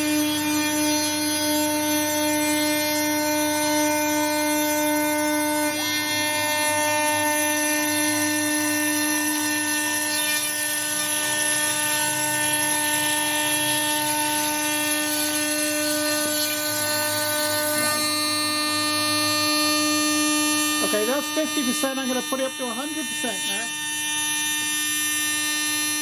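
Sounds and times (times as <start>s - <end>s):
cutter milling wood: 0.0s - 26.0s
router spindle whine: 0.0s - 26.0s.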